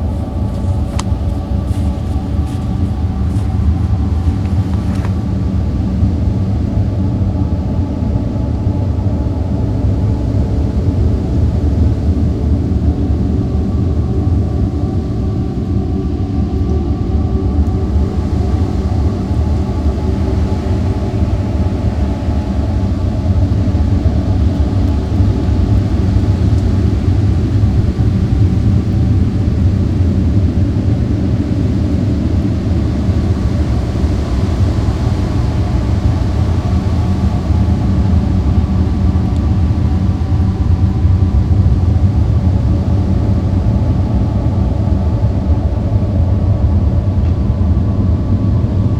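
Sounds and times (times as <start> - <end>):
low rumbling drone: 0.0 - 48.9.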